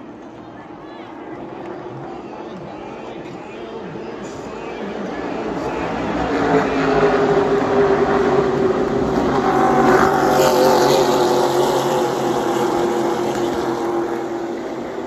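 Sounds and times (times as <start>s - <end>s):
race cars passing at full throttle: 0.0s - 15.0s.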